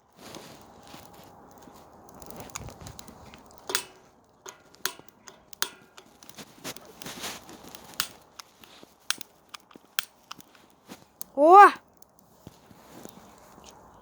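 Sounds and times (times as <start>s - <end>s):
dry twigs snapping and crackling: 0.0s - 14.0s.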